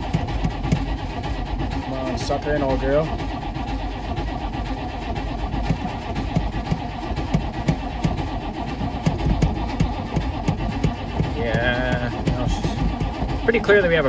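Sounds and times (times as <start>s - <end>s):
starter motor cranking diesel engine: 0.0s - 14.0s.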